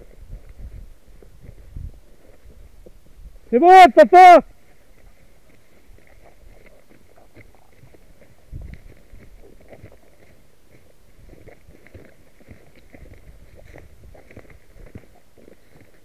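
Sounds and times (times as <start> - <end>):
footsteps in dry scrub: 0.0 - 16.0.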